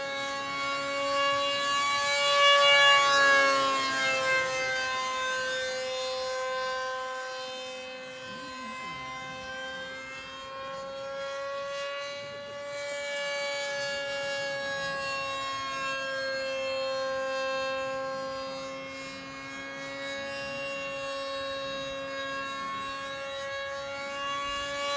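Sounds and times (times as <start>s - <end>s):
model plane motor whine: 0.0s - 24.9s.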